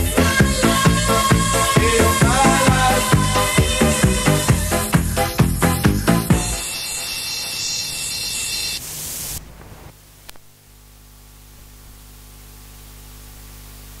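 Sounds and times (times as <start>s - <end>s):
tape hiss: 0.0s - 14.0s.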